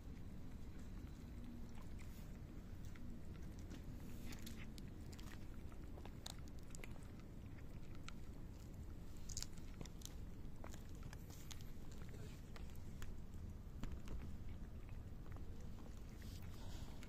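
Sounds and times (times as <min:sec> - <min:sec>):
cats crunching dry kibble: 0:00.0 - 0:17.0
low steady rumble: 0:00.0 - 0:17.0.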